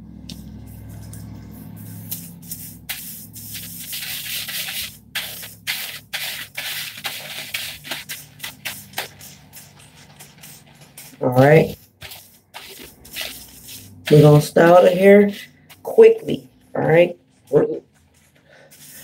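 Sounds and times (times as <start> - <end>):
hands scrubbing lathered hair: 0.8 - 16.4, 18.7 - 19.0.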